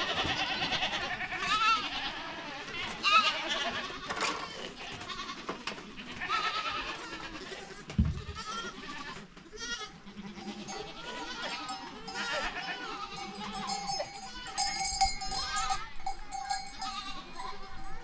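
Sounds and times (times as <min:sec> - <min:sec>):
sheep bleating: 0:00.0 - 0:18.0.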